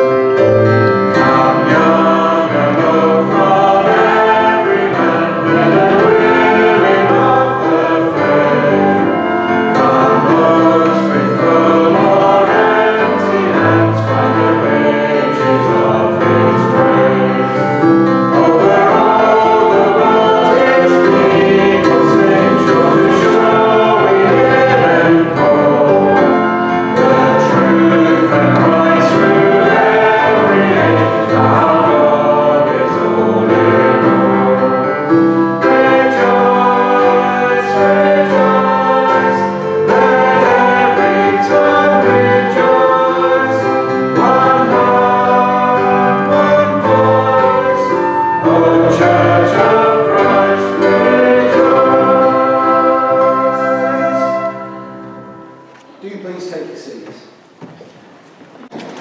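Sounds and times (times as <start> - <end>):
group singing worship song: 0.0 - 55.9
musical accompaniment: 0.0 - 59.0.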